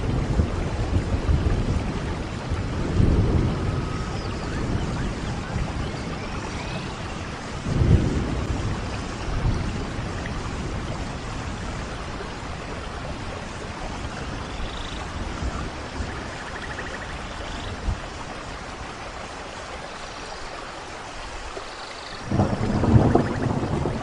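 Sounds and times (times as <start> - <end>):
thunder rumbling: 0.0 - 18.9, 22.2 - 24.0
heavy rain: 0.0 - 24.0.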